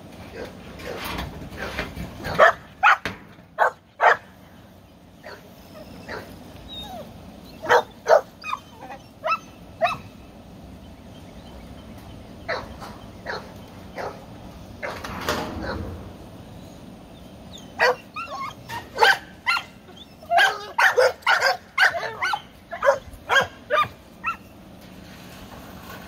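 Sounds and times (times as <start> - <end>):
puppies yipping and barking: 1.6 - 25.0.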